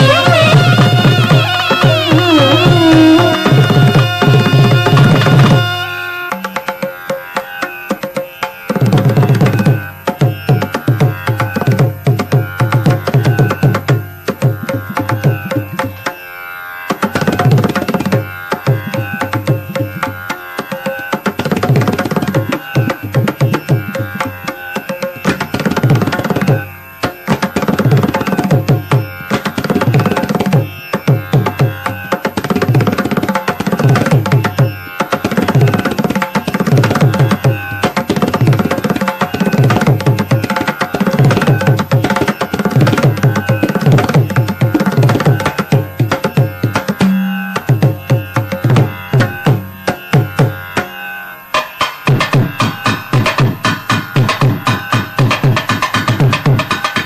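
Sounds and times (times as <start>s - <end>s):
hand drum solo: 0.0s - 7.0s, 8.7s - 15.9s, 17.0s - 26.6s, 27.3s - 50.9s, 51.6s - 57.0s.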